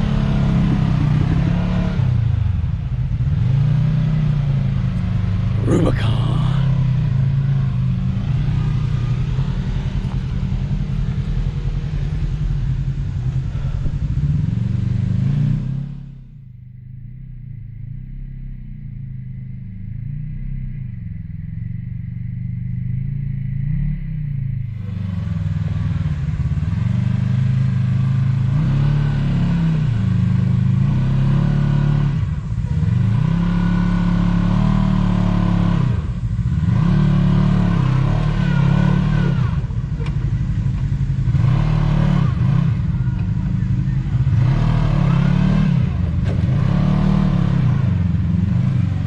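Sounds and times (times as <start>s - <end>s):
engine revving: 0.0s - 16.3s, 23.1s - 49.0s.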